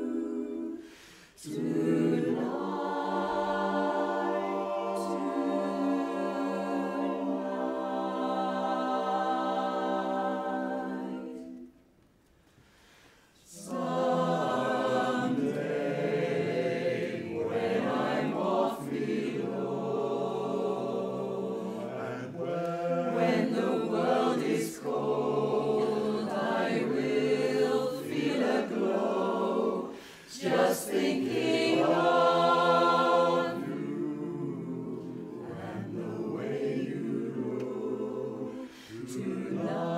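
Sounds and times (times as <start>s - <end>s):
chorus singing a cappella: 0.0s - 11.9s, 13.2s - 39.9s.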